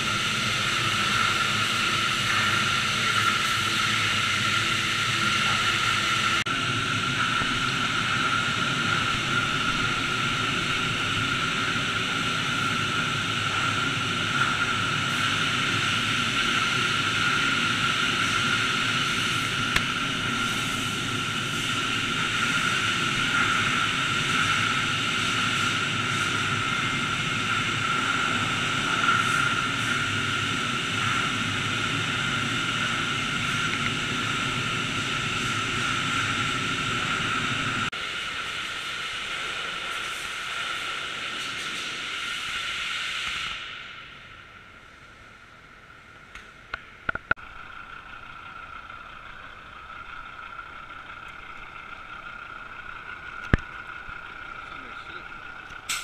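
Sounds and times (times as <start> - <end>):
constant high whine: 0.0 - 56.0.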